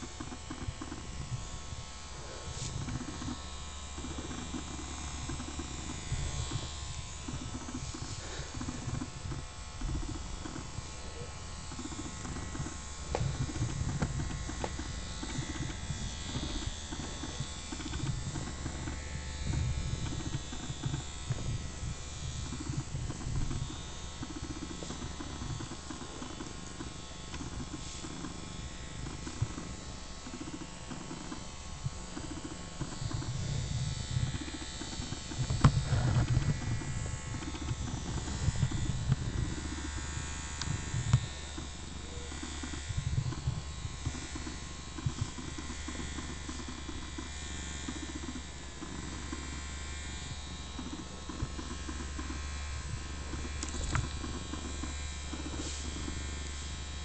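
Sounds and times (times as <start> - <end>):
rubbing and handling noise: 0.0 - 47.0, 50.8 - 56.9
vibrating massager buzzing: 0.0 - 57.0.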